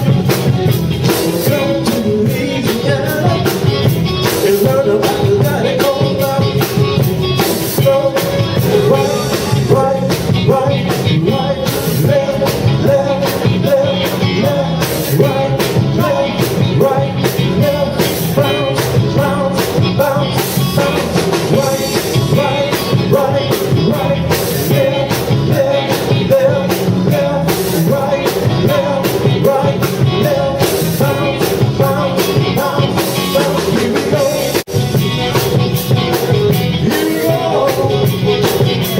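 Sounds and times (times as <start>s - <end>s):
drums: 0.0s - 38.9s
electric guitar: 0.0s - 38.9s
keyboards: 0.0s - 38.9s
person singing: 0.0s - 38.9s.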